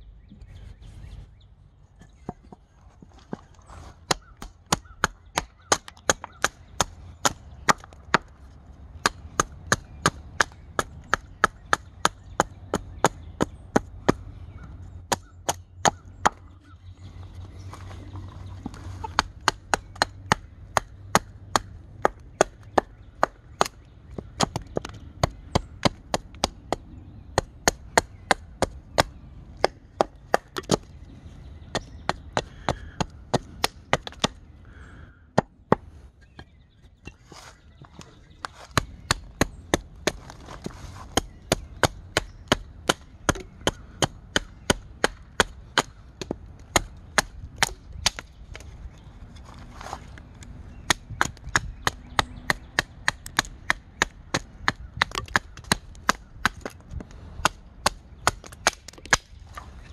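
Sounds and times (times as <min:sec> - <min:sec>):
hatchet chopping wood: 0:04.0 - 0:14.3, 0:15.0 - 0:16.6, 0:18.6 - 0:31.0, 0:31.6 - 0:34.4, 0:35.4 - 0:37.2, 0:37.9 - 0:48.7, 0:50.7 - 0:59.7.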